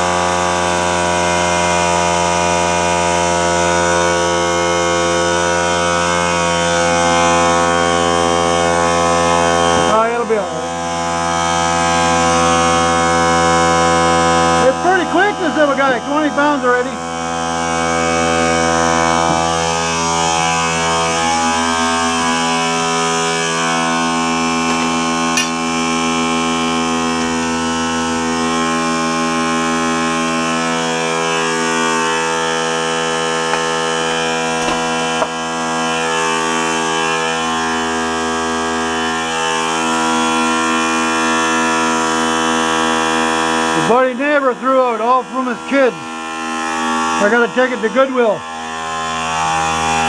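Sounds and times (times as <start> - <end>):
air compressor running: 0.0 - 50.0.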